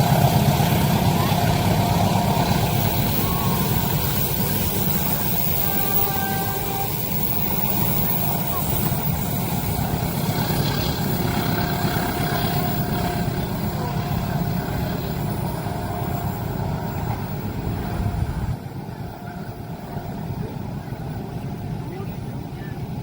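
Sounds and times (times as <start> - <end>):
train passing rumble: 0.0 - 23.0.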